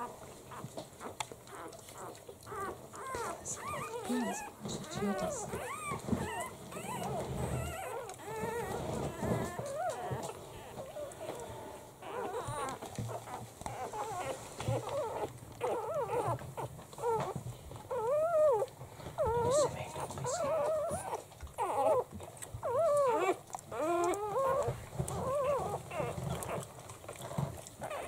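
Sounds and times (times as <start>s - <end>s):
puppies crying: 0.0s - 28.0s.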